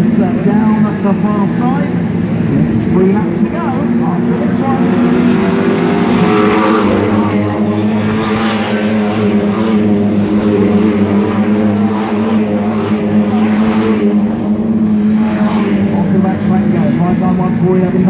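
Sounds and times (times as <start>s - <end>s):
racing car engines drone: 0.0s - 18.0s.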